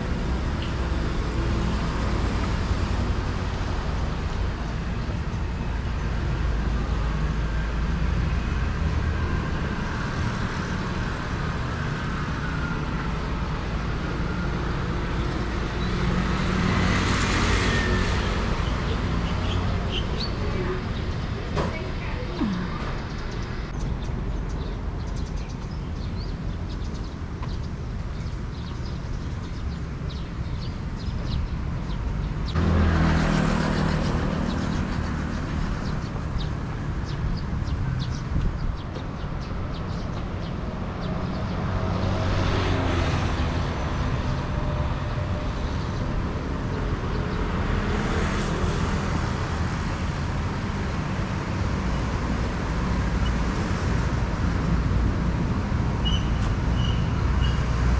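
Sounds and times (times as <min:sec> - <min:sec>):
traffic rumble of cars and scooters: 0:00.0 - 0:57.9.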